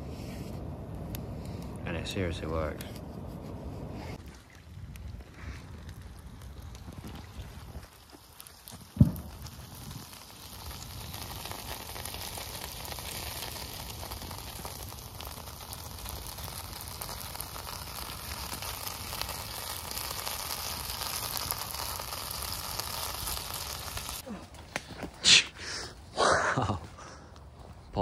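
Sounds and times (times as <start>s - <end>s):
small crackles: 0.0s - 25.2s.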